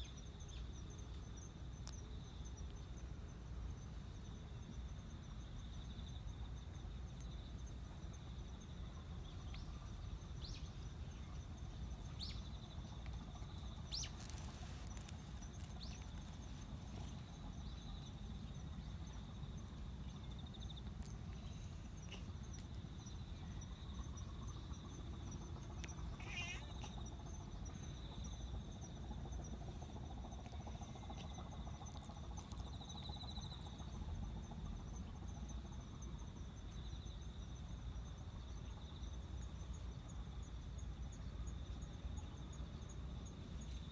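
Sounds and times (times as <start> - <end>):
insects trilling: 0.0 - 43.9
low background rumble: 0.1 - 43.9.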